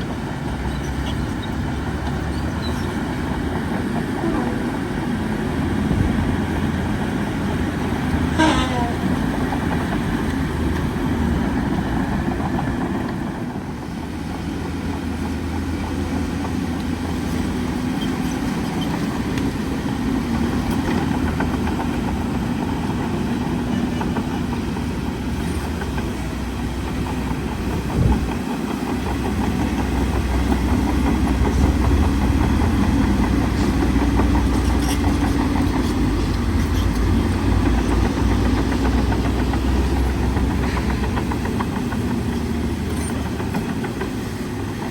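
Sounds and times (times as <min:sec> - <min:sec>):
bulldozer diesel engine running: 0:00.0 - 0:44.9
steel tracks clattering: 0:00.0 - 0:44.9.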